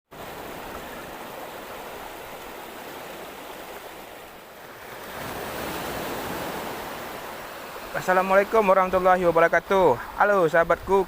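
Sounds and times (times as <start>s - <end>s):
sea waves on sandy shore: 0.1s - 11.0s.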